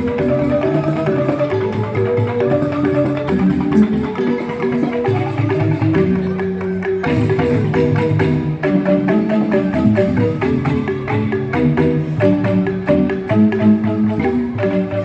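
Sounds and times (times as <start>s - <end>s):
bamboo xylophones playing fast notes: 0.0s - 15.0s
percussion strokes: 0.0s - 15.0s.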